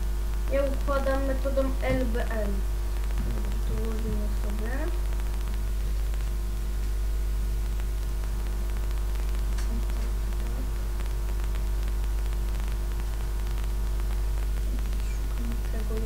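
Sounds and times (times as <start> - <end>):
electrical mains hum: 0.0 - 16.0
static hiss: 0.0 - 16.0.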